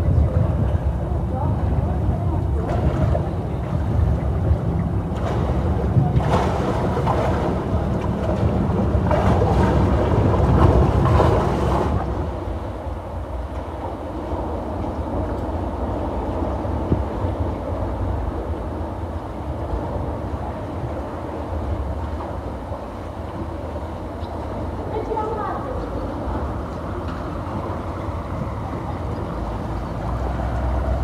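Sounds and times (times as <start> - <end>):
boat engine rumble: 0.0 - 31.0
water rushing: 0.0 - 31.0.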